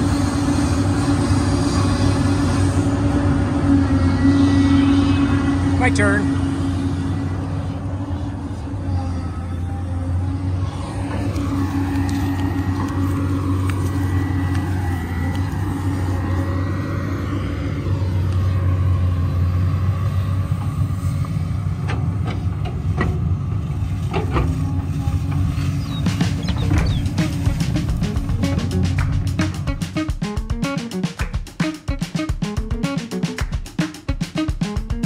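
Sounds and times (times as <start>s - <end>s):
hydraulic whine: 0.0s - 31.0s
excavator diesel engine running: 0.0s - 35.0s.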